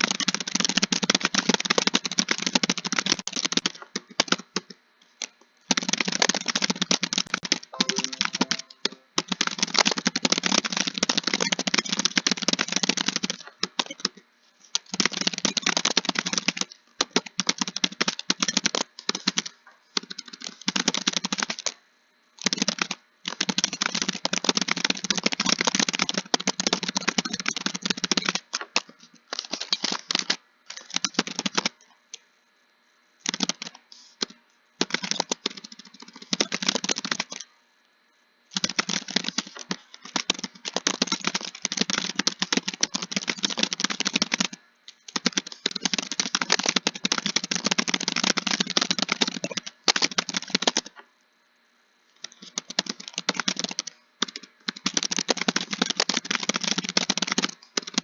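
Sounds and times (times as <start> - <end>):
computer keyboard typing: 0.0 - 4.7, 5.7 - 14.2, 14.8 - 21.8, 22.4 - 31.8, 33.2 - 33.8, 34.8 - 37.5, 38.6 - 51.0, 52.2 - 58.0.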